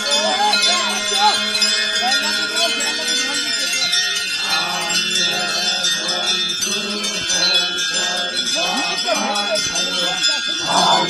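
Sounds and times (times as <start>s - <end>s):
men chanting: 0.0s - 11.0s
small metal bells jingling: 0.0s - 11.0s.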